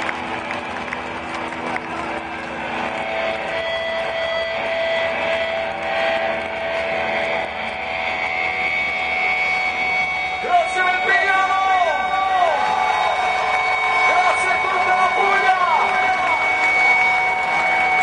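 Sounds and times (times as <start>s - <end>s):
crowd cheering and shouting: 0.0s - 18.0s
long held tones: 3.5s - 18.0s.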